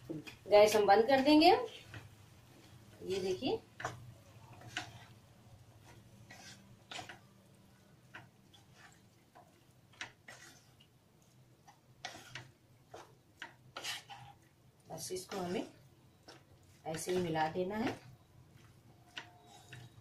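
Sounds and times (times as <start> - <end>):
spatula scraping pan: 0.2 - 20.0.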